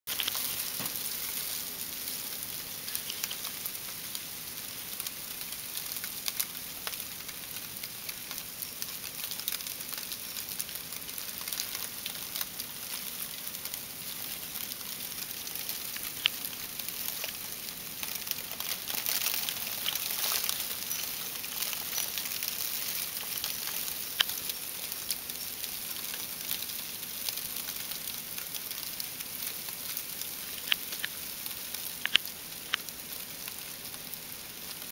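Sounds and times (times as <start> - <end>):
ice falling on snow: 0.1 - 34.9.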